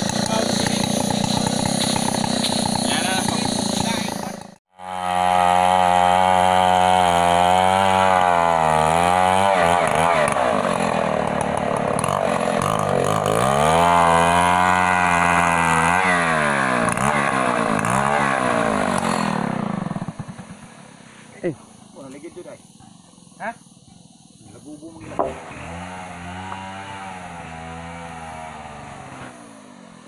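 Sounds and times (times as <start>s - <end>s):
chainsaw cutting wood: 0.0s - 21.0s, 25.0s - 30.0s.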